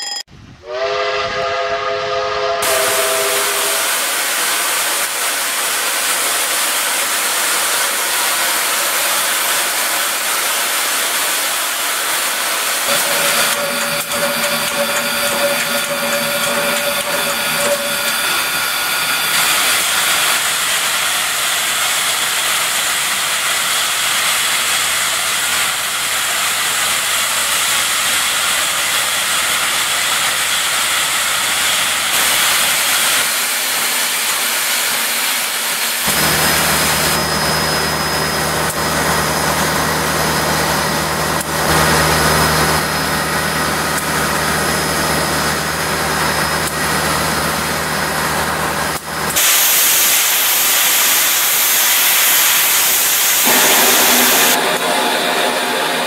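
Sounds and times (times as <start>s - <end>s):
steam locomotive hissing: 0.6s - 56.0s.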